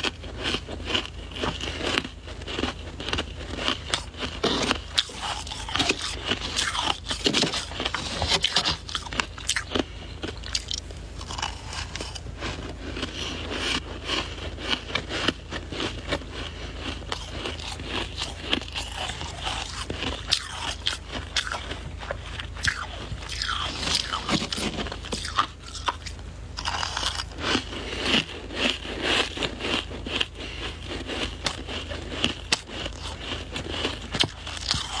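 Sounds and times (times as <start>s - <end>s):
person crunching ice: 0.0s - 35.0s.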